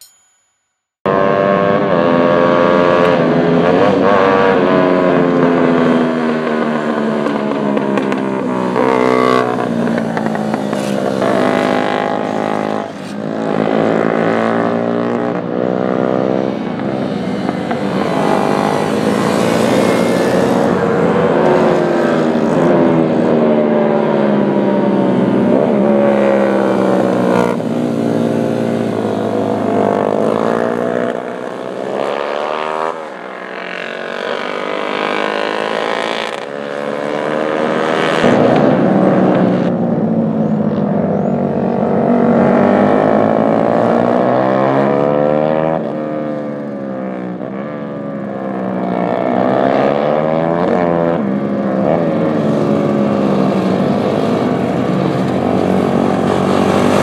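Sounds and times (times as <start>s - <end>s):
racing motorcycle engines revving: 1.1s - 57.0s.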